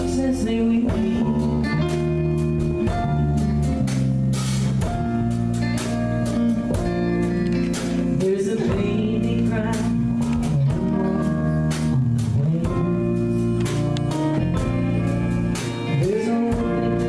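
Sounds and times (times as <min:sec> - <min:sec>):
bass guitar: 0:00.0 - 0:17.0
lead guitar bending notes: 0:00.0 - 0:17.0
drums with cymbal hits: 0:00.8 - 0:17.0.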